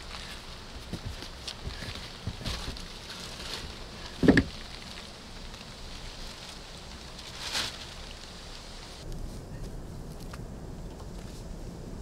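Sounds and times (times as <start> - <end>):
tarpaulin rustling: 0.0 - 10.2.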